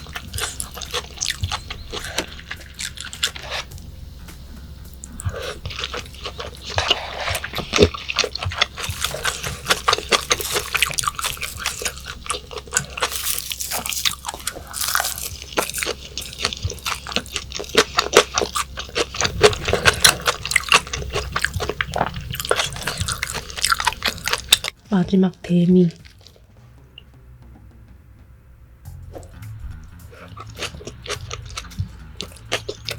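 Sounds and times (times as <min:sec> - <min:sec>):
person chewing wetly: 0:00.0 - 0:04.0, 0:04.9 - 0:24.8, 0:25.9 - 0:26.5, 0:29.1 - 0:32.9
crunchy bites: 0:00.0 - 0:24.8, 0:30.1 - 0:32.9.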